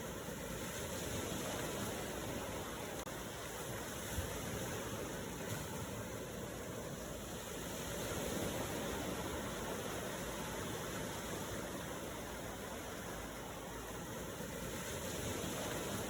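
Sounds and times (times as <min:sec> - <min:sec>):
waves washing: 0:00.0 - 0:16.0.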